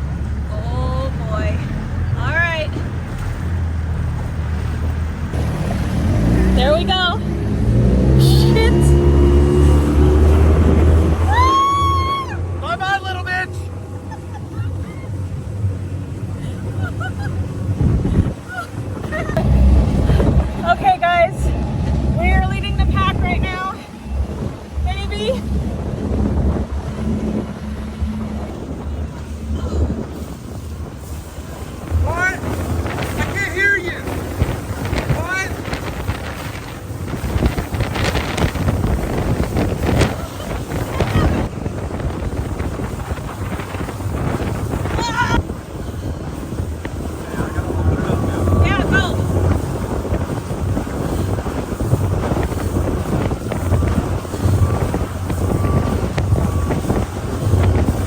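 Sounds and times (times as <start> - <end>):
outboard motor droning: 0.0 - 58.0
water rushing: 0.0 - 58.0
wind: 0.0 - 58.0.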